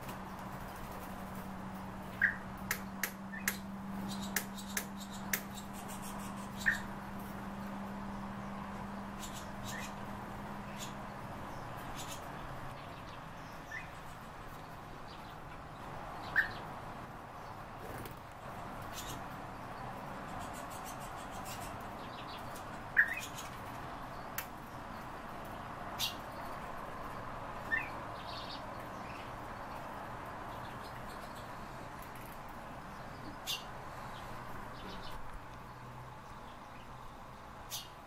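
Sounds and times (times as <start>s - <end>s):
caged birds chirping: 0.0s - 38.0s.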